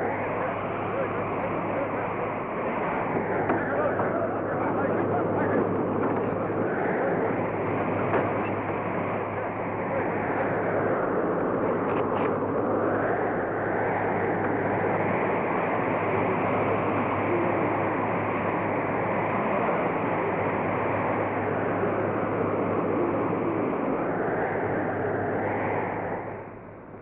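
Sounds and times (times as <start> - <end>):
blizzard wind gusting: 0.0 - 27.0.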